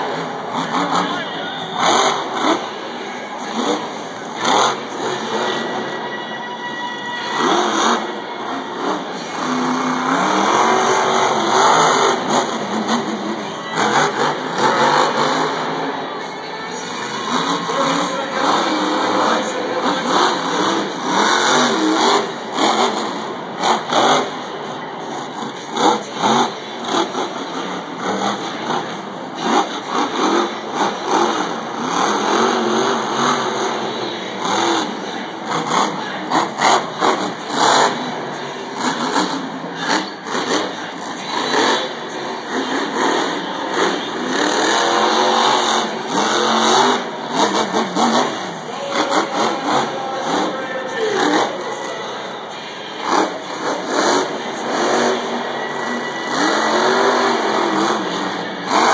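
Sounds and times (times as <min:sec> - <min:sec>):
truck engine revving: 0:00.0 - 0:58.9.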